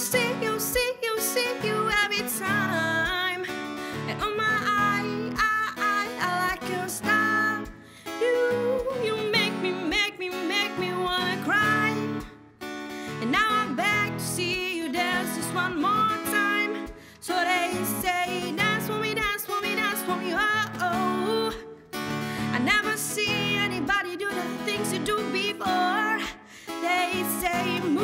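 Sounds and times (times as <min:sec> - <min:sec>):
woman singing with vibrato: 0:00.0 - 0:12.4, 0:13.0 - 0:28.0
strummed acoustic guitar: 0:00.0 - 0:28.0.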